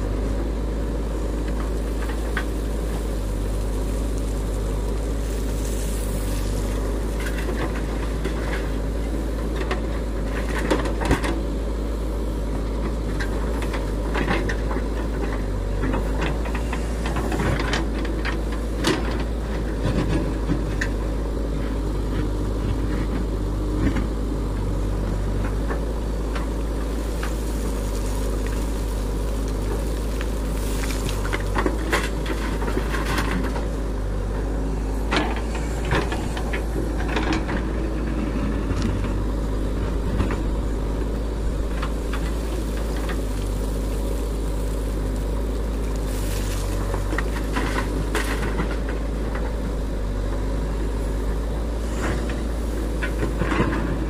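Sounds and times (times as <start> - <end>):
diesel engine running: 0.0 - 54.0
falling earth: 0.0 - 54.0.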